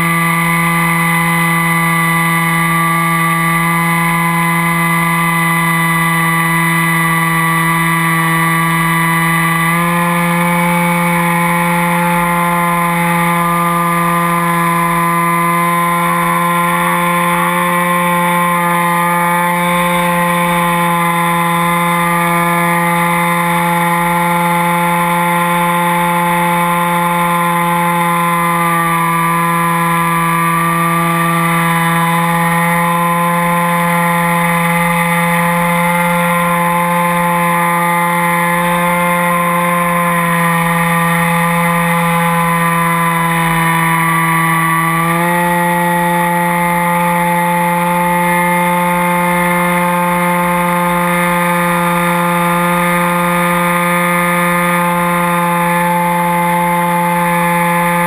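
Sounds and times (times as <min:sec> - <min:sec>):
model plane motor droning: 0:00.0 - 0:58.0.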